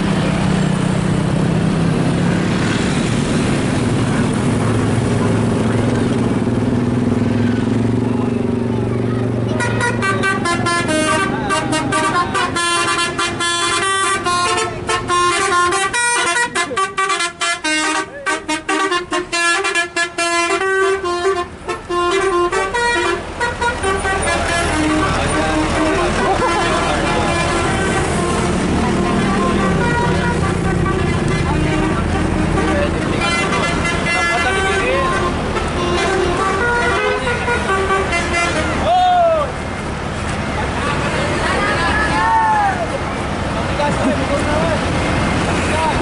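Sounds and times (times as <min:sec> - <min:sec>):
bus engine running: 0:00.0 - 0:46.0.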